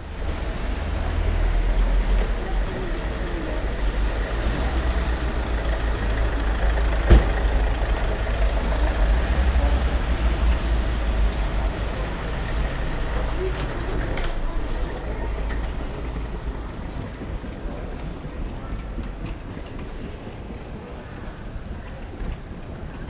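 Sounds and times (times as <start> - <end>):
road traffic rumble: 0.0 - 23.0
vehicles idling: 0.0 - 23.0.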